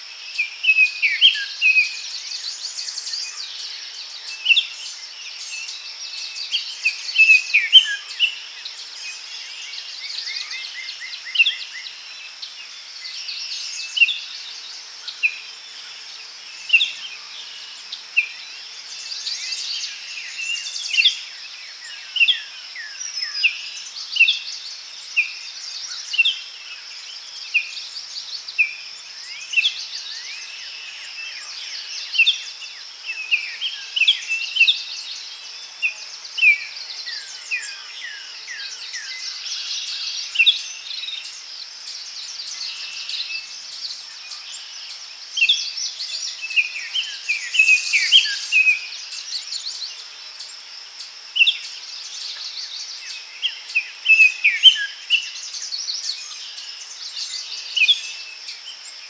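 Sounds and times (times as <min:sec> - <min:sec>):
high insect hum: 0:00.0 - 0:59.0.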